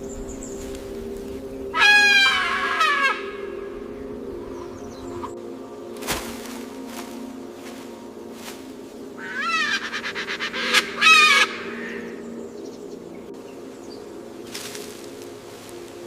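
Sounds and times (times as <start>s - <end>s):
background music: 0.0s - 16.0s
bird calling: 0.0s - 16.0s.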